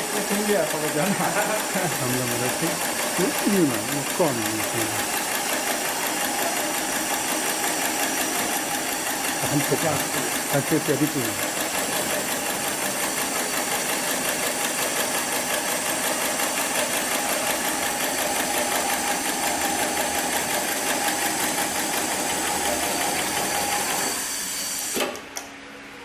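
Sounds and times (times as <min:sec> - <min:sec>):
sewing machine stitching: 0:00.0 - 0:25.2.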